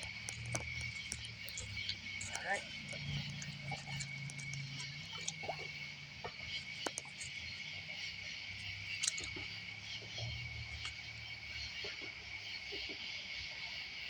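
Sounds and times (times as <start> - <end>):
faint low hum: 0.0 - 12.6
crickets calling: 0.0 - 14.0.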